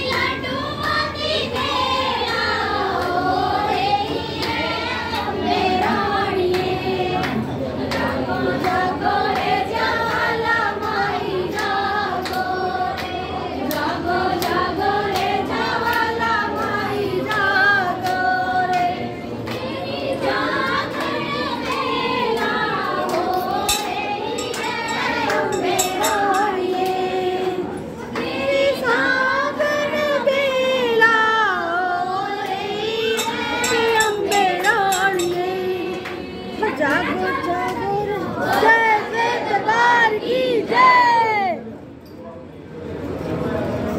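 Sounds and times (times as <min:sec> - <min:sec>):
group singing devotional song: 0:00.0 - 0:41.2.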